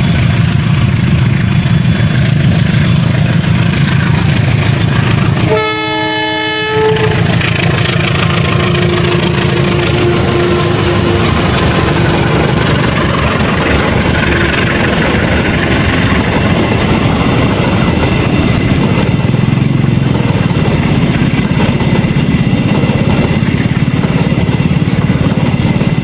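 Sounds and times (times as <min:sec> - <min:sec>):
locomotive engine throbbing: 0:00.0 - 0:26.0.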